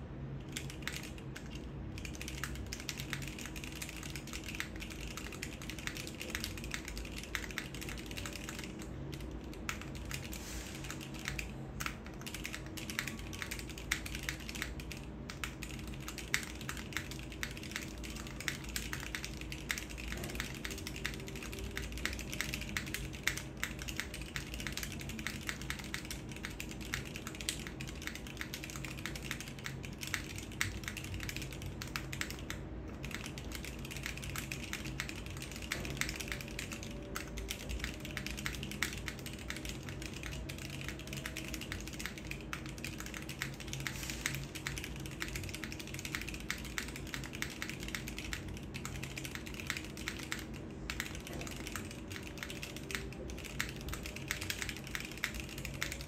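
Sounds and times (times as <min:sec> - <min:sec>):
mechanical keyboard key clacks: 0:00.4 - 0:56.0.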